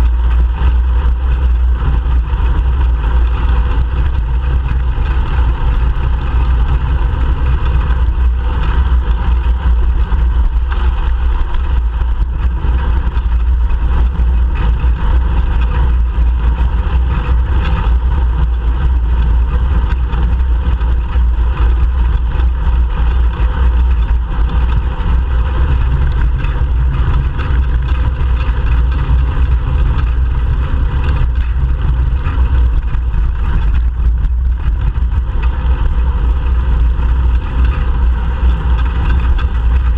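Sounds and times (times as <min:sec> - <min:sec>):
road vibration: 0:00.0 - 0:39.9
wind rumble on microphone: 0:00.0 - 0:39.9.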